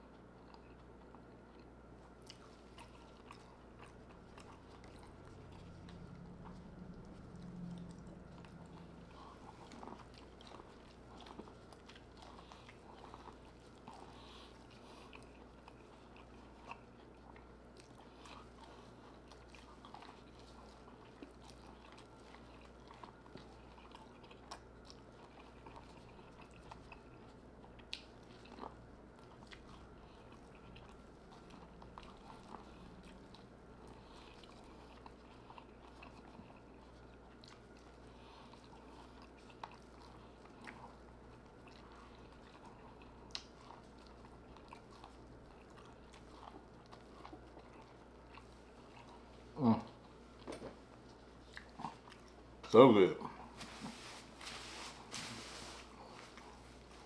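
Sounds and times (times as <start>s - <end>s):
chewing corn on the cob: 0.0s - 53.6s, 55.9s - 57.0s.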